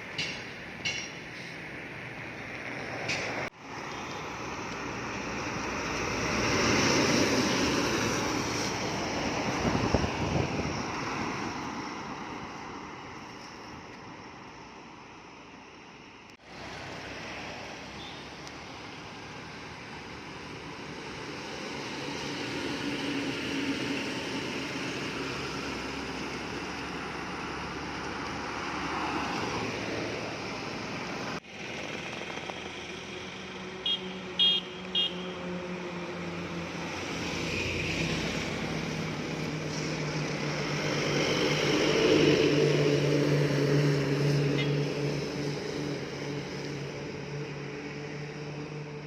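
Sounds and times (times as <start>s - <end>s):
heavy road traffic: 0.0s - 49.0s.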